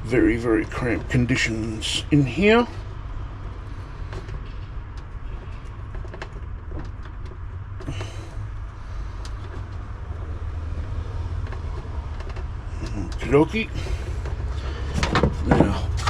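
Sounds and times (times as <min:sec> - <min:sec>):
clicks and rustles of wires: 0:02.5 - 0:16.0.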